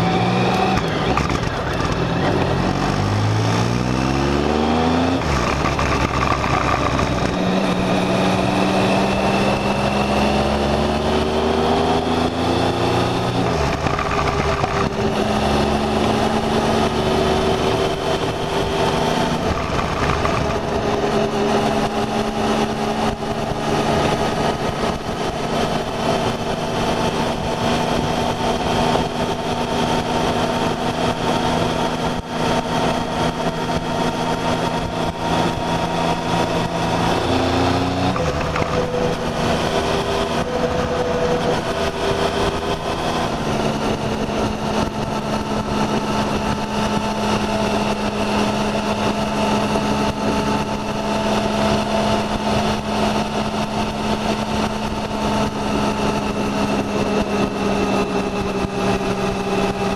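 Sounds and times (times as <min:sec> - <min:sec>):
motorcycle engine accelerating: 0:00.0 - 0:59.9
wind rush: 0:05.2 - 0:59.9.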